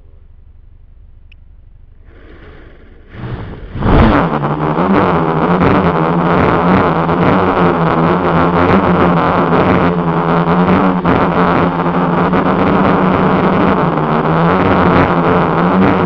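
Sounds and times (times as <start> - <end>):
quadcopter motors humming: 1.3 - 16.0.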